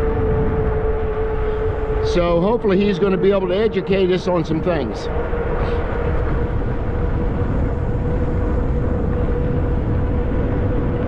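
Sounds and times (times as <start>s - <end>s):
steady whine: 0.0s - 11.0s
wind rushing over microphone: 0.0s - 11.0s.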